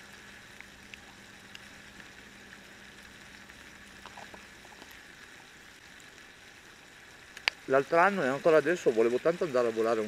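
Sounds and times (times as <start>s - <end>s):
sausages sizzling on griddle: 0.0s - 10.0s
small crackles: 0.0s - 10.0s.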